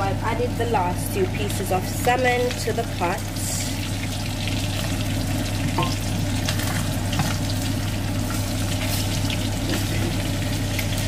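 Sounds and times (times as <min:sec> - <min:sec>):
extractor fan humming: 0:00.0 - 0:11.0
fish sizzling in a pan: 0:01.4 - 0:11.0.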